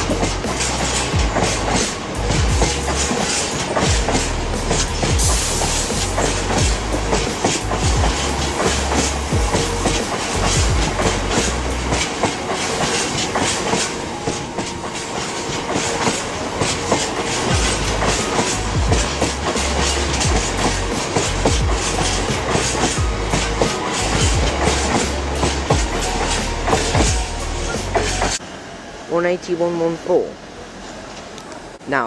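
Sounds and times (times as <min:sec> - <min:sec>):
freight wagons rolling on rails: 0:00.0 - 0:28.4
wheels clicking over rail joints: 0:00.0 - 0:28.4.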